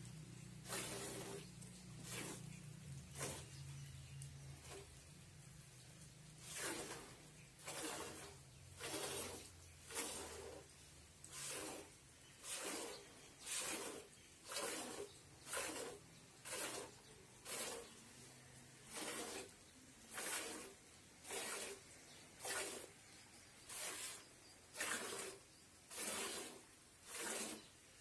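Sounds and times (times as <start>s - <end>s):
milk squirting into a pail: 0.0s - 28.0s.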